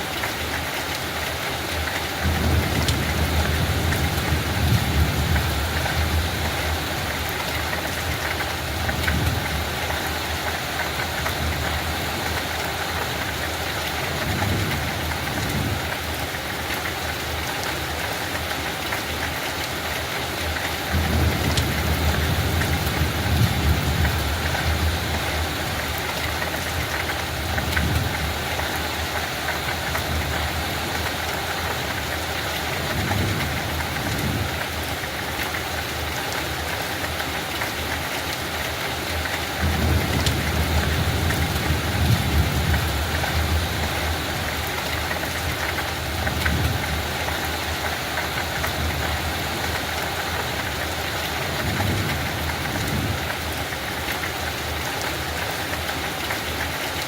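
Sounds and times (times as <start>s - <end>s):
light rain falling on a field: 0.0s - 57.0s.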